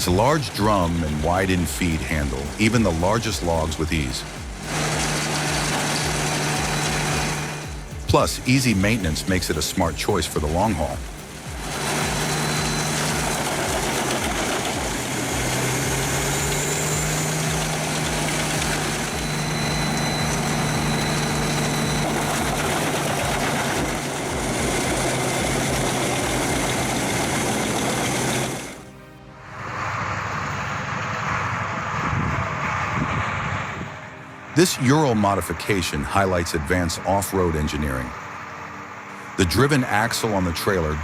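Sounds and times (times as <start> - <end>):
wood chipper running: 0.0 - 32.9
quieter engine sound: 0.0 - 41.0.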